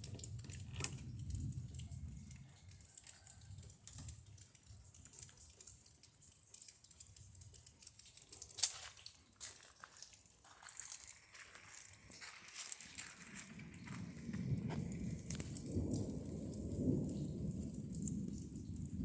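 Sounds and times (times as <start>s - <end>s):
raindrops dripping and pattering: 0.0s - 19.0s.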